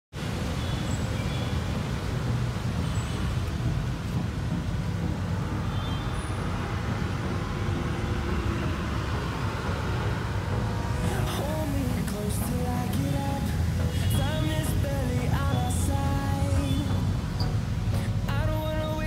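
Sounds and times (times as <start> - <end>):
street traffic rumble: 0.1 - 19.0.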